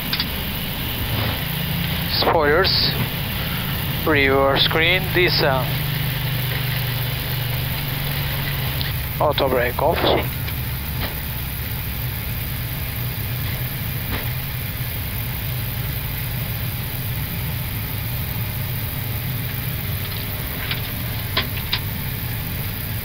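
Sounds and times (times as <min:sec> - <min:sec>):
airflow hiss: 0:00.0 - 0:23.0
low rumble of engines and wheels: 0:00.0 - 0:23.0.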